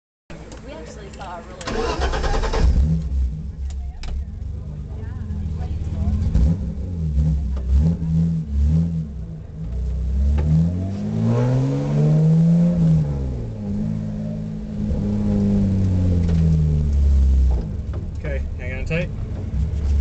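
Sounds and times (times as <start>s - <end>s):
car engine revving and idling: 0.4s - 20.0s.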